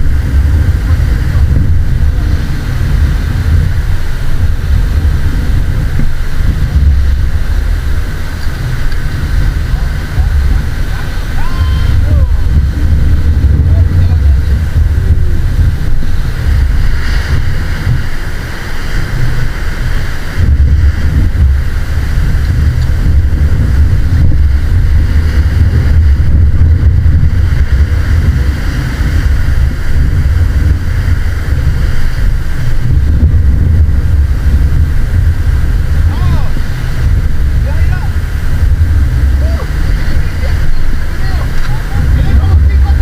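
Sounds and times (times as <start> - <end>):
surf washing on beach: 0.0 - 43.0
wind buffeting microphone: 0.0 - 43.0.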